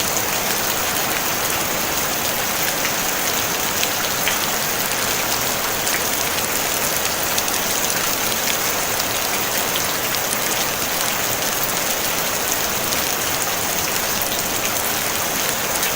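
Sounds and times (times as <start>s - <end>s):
rain on a tin roof: 0.0s - 15.9s.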